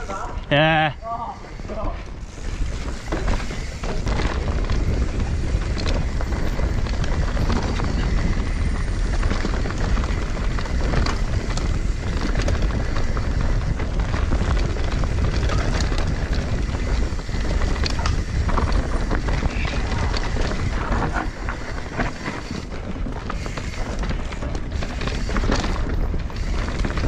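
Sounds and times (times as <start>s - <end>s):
bike tyre noise and rattle: 0.0s - 27.0s
wind buffeting microphone: 0.0s - 27.0s
bike knocking over bumps: 2.6s - 27.0s.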